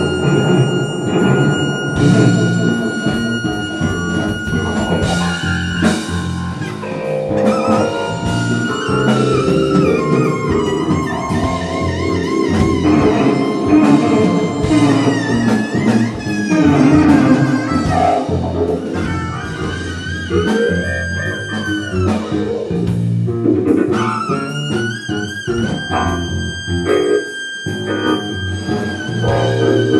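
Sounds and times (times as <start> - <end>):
drum kit: 0.0 - 29.9
electric bass: 0.0 - 29.9
high lead melody with vibrato: 0.0 - 29.9.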